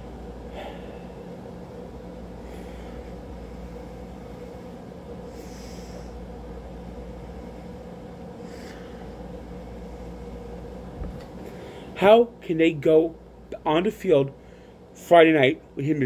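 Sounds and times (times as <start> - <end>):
steady room hum: 0.0 - 16.0.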